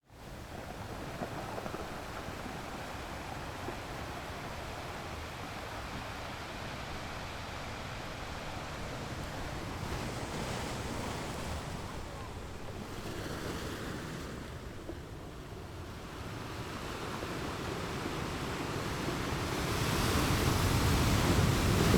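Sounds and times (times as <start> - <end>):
rumble of waves: 0.1 - 21.9.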